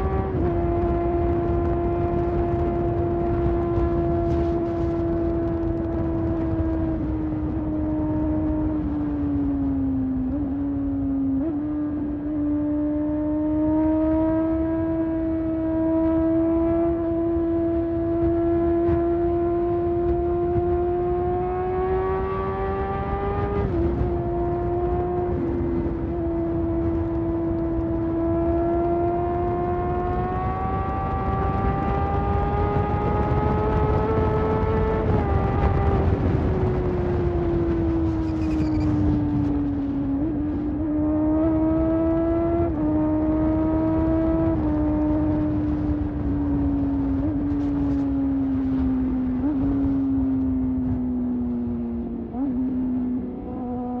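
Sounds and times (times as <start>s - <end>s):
low wind rumble: 0.0s - 54.0s
motorcycle engine at high revs: 0.0s - 54.0s.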